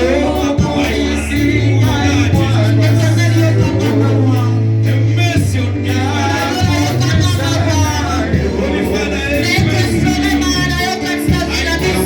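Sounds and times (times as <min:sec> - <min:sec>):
steady bass line: 0:00.0 - 0:12.0
wavering voices singing: 0:00.0 - 0:12.0.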